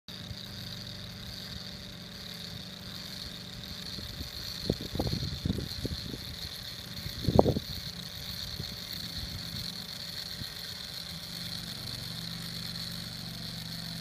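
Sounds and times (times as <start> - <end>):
gear train whirring: 0.1 - 14.0.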